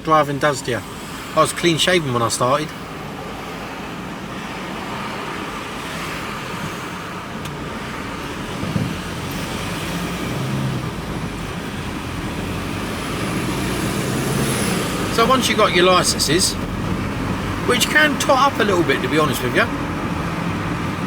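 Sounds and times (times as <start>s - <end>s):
van engine and road noise: 0.0s - 21.0s.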